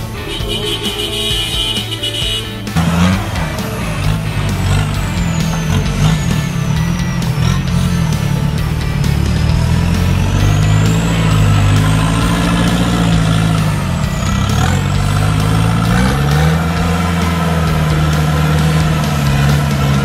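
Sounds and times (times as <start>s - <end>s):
high whine: 0.0s - 20.0s
off-road engine labouring: 0.0s - 20.0s.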